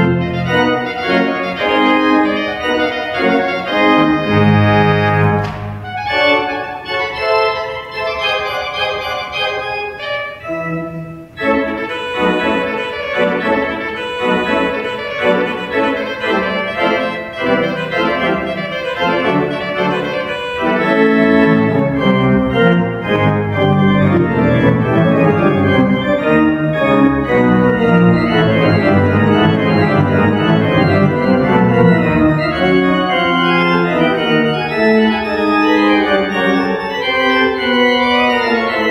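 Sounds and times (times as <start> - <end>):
organ pedal notes: 0.0 - 38.9
pipe organ playing fast passage: 0.0 - 38.9.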